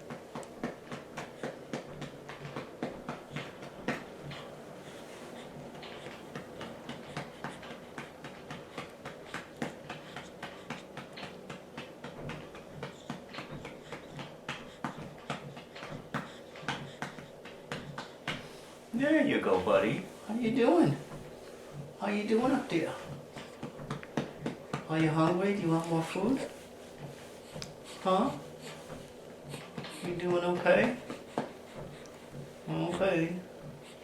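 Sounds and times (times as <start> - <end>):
light pats on baby's back: 0.0 - 34.0
steady low hum: 0.0 - 34.0.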